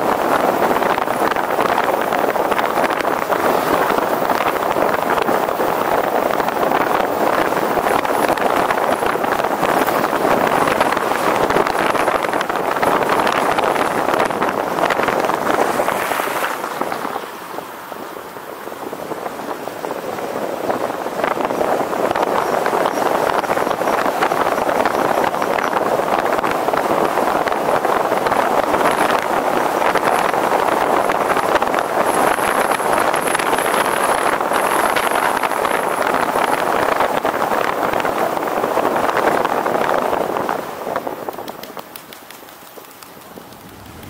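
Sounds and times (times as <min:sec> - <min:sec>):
road noise: 0:00.0 - 0:44.0
rushing wind: 0:00.0 - 0:44.0.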